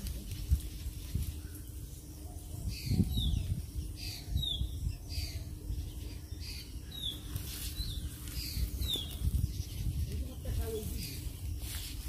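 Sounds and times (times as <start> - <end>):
bird chirping: 1.1 - 12.0.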